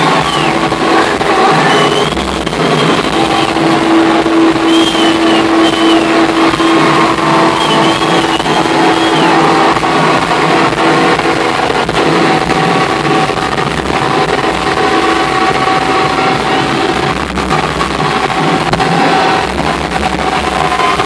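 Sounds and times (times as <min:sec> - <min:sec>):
loud live rock band: 0:00.0 - 0:21.0.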